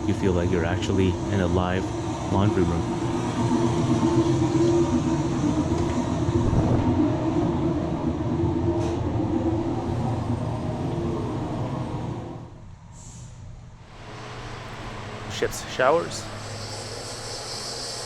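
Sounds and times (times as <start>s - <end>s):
machinery drone: 0.0s - 12.5s, 14.0s - 18.0s.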